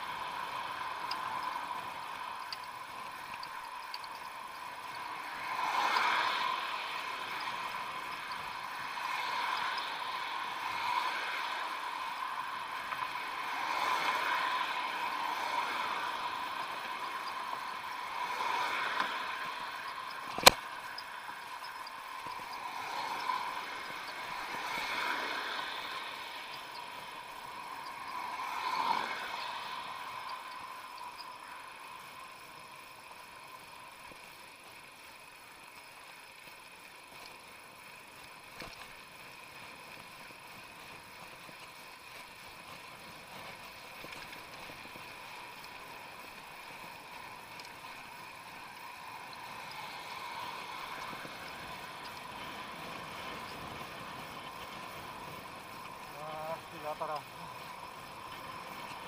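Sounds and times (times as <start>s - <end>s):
car passing by: 0.0s - 35.1s, 38.1s - 59.0s
bicycle tyre and wind noise: 0.0s - 59.0s
faint steady whine: 0.0s - 59.0s.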